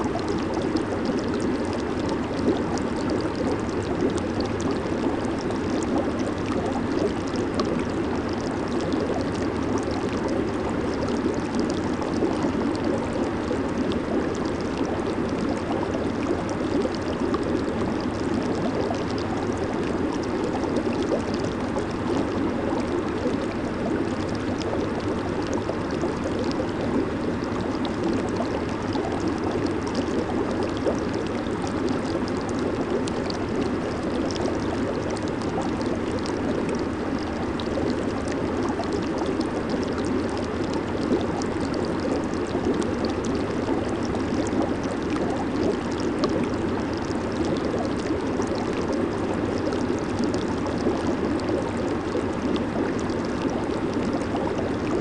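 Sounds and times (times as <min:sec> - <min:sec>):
jacuzzi water bubbling: 0:00.0 - 0:55.0.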